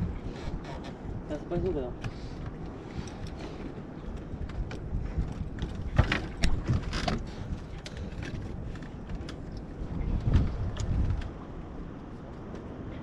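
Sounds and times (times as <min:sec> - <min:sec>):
low rumble of wind and boat: 0:00.0 - 0:13.0.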